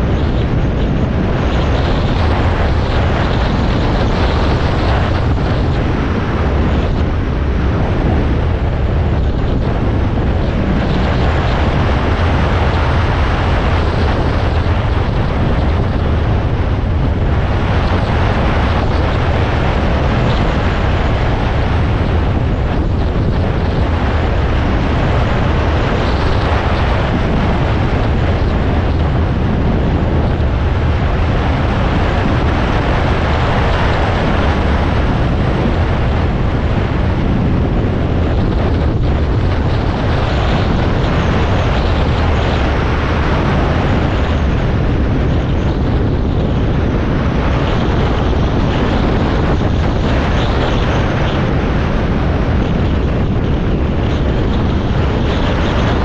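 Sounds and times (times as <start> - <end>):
motorcycle engine drone: 0.0 - 56.0
wind rush on microphone: 0.0 - 56.0.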